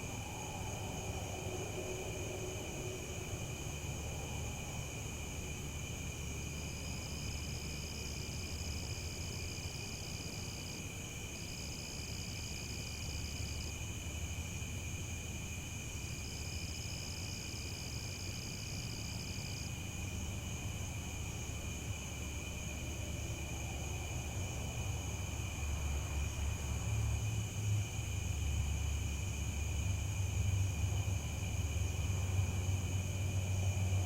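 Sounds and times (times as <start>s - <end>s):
crickets trilling: 0.0s - 34.0s
high-pitched cricket chirping: 0.0s - 34.0s.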